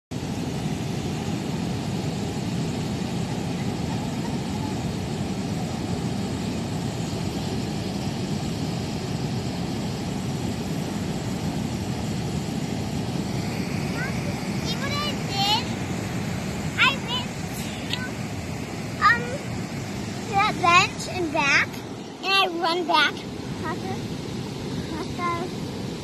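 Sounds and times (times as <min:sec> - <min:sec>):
steady low rumbling: 0:00.3 - 0:26.0.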